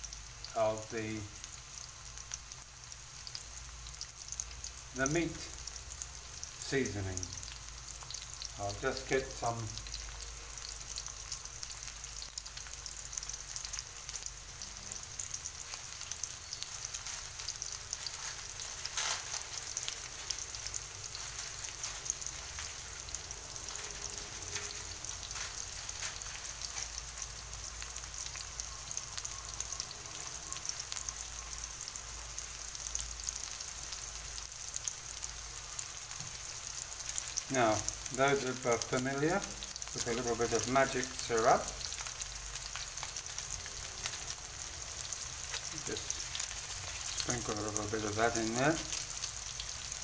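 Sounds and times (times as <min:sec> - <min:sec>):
onion and garlic sizzling in oil: 0:00.0 - 0:50.0.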